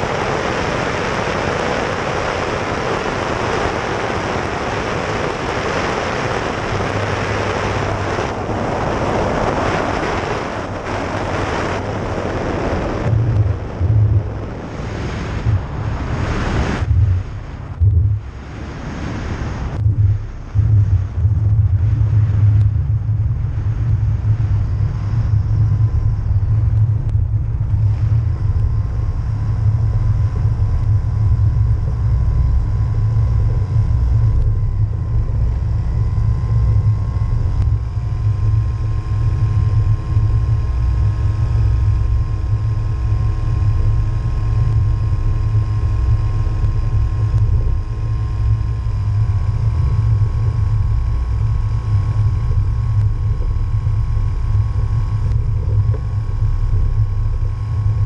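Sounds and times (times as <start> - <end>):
ultralight engine idling: 0.0 - 58.0
wind rumble on microphone: 0.0 - 58.0.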